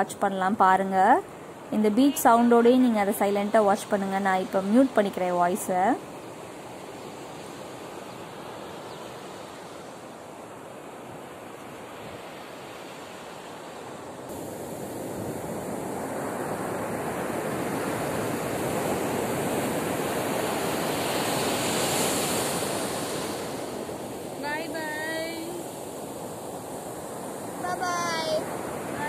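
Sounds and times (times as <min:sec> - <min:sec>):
ocean surf washing: 0:00.0 - 0:29.0.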